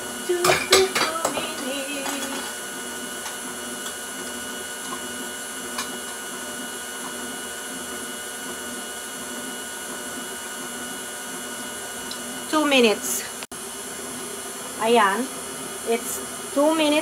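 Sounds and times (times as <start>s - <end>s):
stand mixer running: 0.0s - 17.0s.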